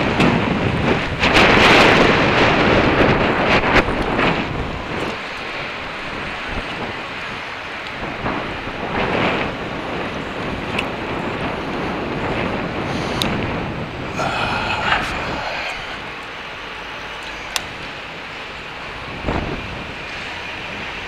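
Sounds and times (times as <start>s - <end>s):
city street traffic hum: 0.0s - 21.0s
wind rushing over microphone: 0.0s - 21.0s.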